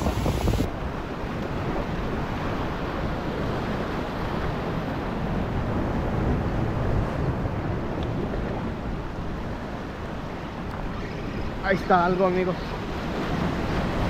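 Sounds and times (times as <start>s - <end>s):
ocean surf on rocks: 0.0s - 14.0s
wind buffeting microphone: 0.0s - 14.0s.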